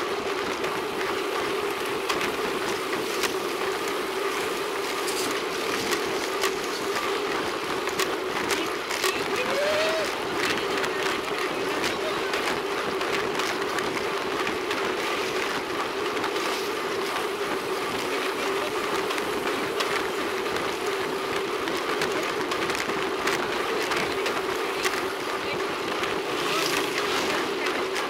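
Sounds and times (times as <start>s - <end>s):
constant hum: 0.0s - 28.0s
tyres and wind rushing: 0.0s - 28.0s.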